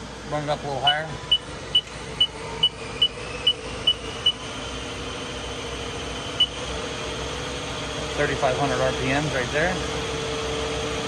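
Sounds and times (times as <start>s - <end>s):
lathe spindle hum and whine: 0.0s - 11.0s.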